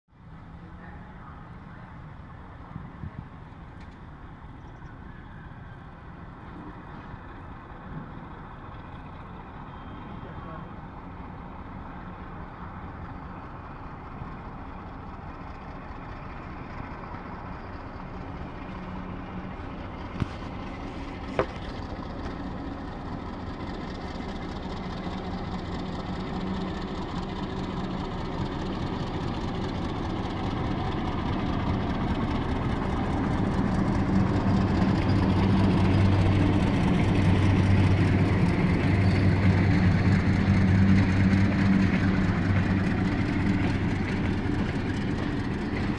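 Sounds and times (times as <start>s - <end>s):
diesel locomotive engine hum: 0.1s - 45.9s
train rumble: 0.2s - 45.9s.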